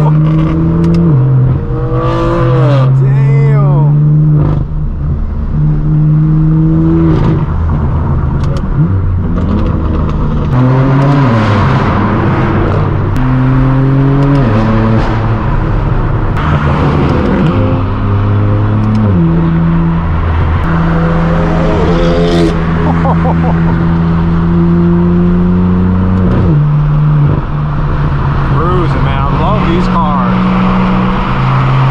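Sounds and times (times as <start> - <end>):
car engine and exhaust drone: 0.0 - 31.9.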